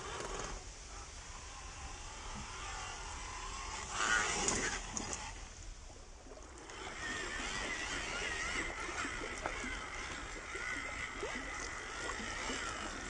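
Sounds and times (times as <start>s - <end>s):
toy car electric motor whining: 0.0s - 5.5s, 6.6s - 13.0s.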